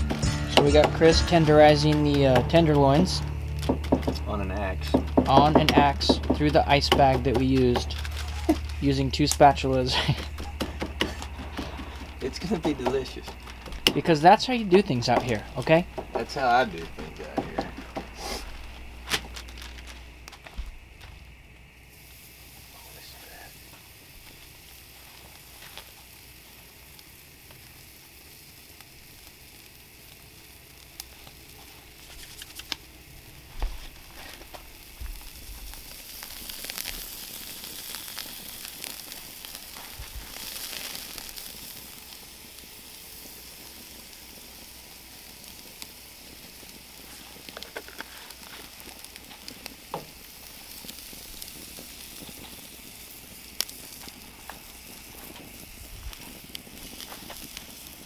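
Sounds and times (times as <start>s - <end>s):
fire crackles and pops: 0.0s - 58.0s
meat sizzling on a grill: 0.0s - 58.0s.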